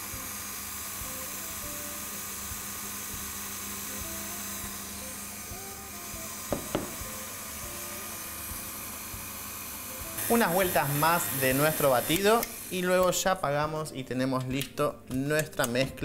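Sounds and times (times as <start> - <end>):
stand mixer running: 0.0 - 13.1.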